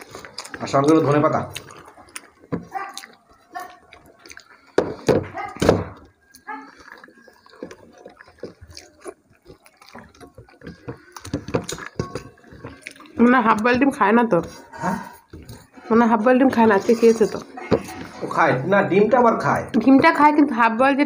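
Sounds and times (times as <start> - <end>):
chewing with moist smacks: 0.0 - 18.5
wet eating sounds: 0.0 - 21.0.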